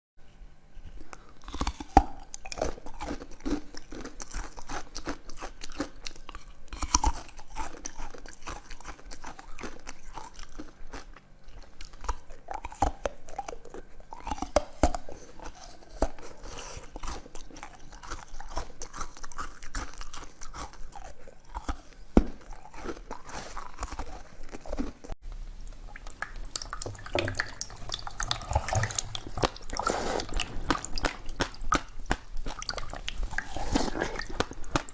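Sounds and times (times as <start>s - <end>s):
crunchy biting and chewing: 0.9s - 25.2s, 25.8s - 34.9s.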